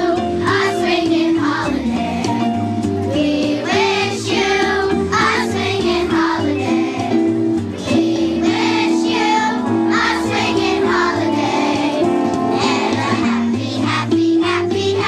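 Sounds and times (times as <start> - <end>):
children's choir singing: 0.0 - 15.0
instrumental accompaniment with bass: 0.0 - 15.0.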